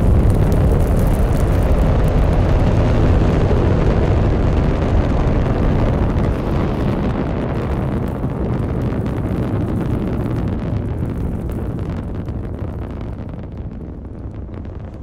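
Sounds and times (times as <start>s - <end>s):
rocket engine roar: 0.0s - 15.0s.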